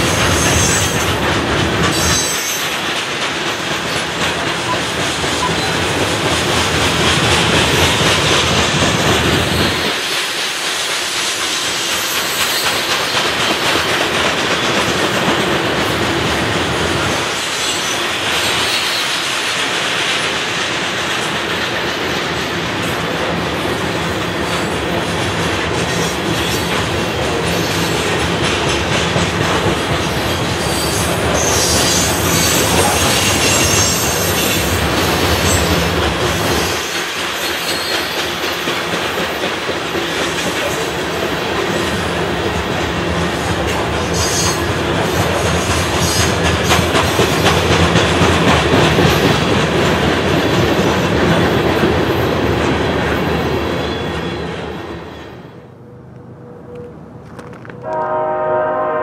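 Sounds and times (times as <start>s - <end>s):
wheels clacking over rail joints: 0.0s - 54.8s.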